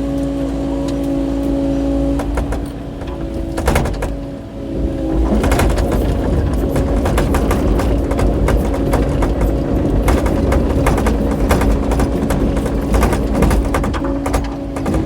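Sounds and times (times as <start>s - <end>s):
excavator diesel engine running: 0.0s - 15.0s
clacks and knocks: 2.2s - 15.0s.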